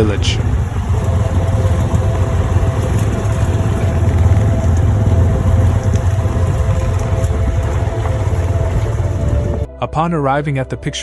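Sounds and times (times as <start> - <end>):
motor engine rumbling: 0.0 - 9.7.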